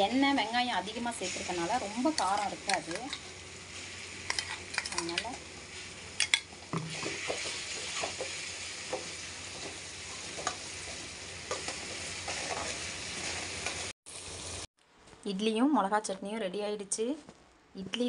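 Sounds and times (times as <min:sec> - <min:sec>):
onions sizzling in a pan: 0:00.0 - 0:14.7.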